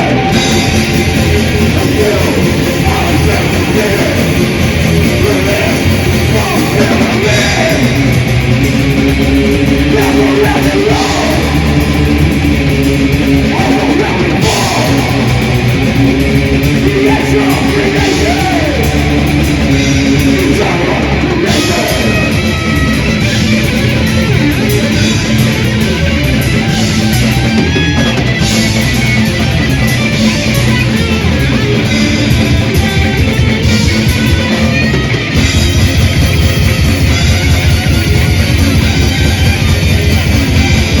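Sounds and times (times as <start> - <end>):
bass and drums: 0.0 - 41.0
distorted electric guitars: 0.0 - 41.0
metal band playing live: 0.0 - 41.0.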